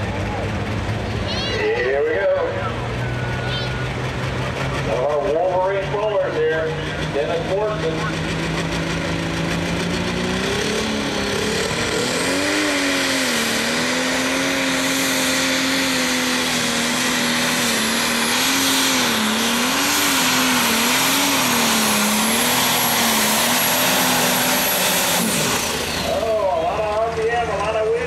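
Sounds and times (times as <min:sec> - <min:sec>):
tractor diesel engine at full throttle: 0:00.0 - 0:28.0.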